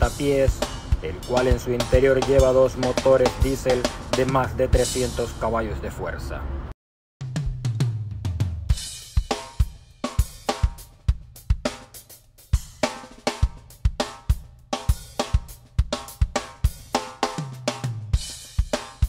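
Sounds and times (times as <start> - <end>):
background music with drum beat: 0.0 - 5.6, 7.2 - 19.0.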